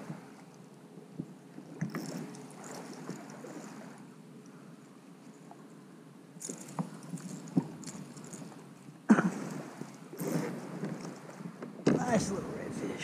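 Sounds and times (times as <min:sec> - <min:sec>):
water lapping against kayak: 0:00.0 - 0:13.0.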